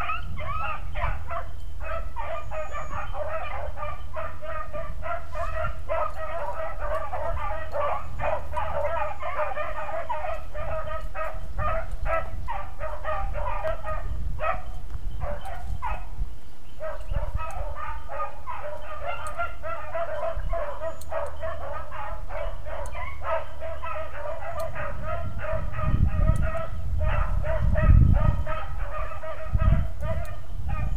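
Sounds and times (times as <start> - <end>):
hounds baying: 0.0 - 16.2, 16.8 - 30.9.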